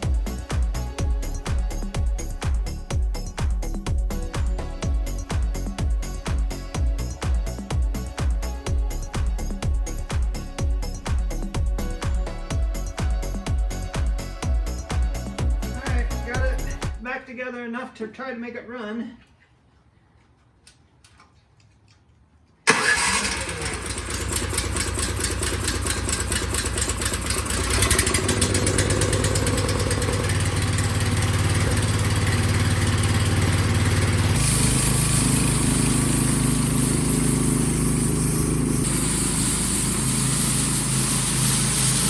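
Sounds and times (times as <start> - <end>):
small gasoline engine running: 0.0 - 17.0, 22.7 - 42.0.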